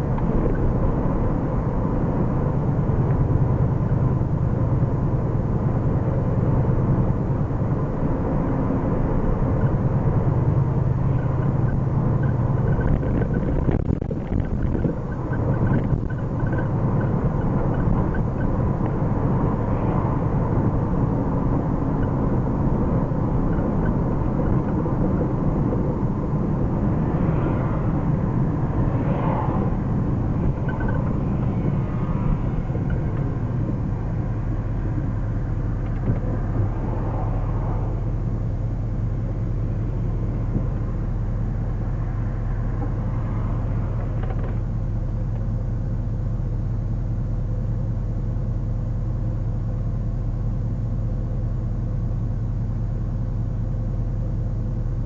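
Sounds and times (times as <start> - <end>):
car engine: 0.0 - 55.0
road noise inside car: 0.0 - 55.0.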